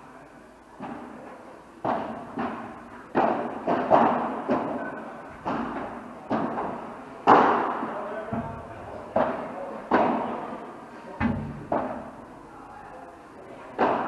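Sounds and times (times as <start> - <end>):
rackets hitting ball: 0.7 - 10.6, 11.2 - 12.3, 13.6 - 14.0.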